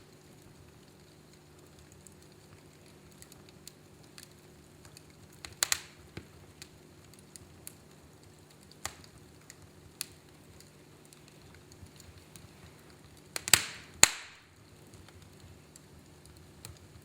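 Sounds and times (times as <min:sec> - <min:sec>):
faint steady hum: 0:00.0 - 0:17.0
fire crackling and popping: 0:00.0 - 0:17.0.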